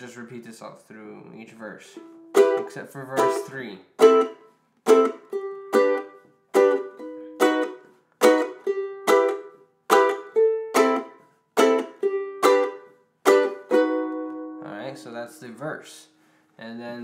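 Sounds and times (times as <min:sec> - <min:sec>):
ukulele strumming: 0:01.8 - 0:16.2.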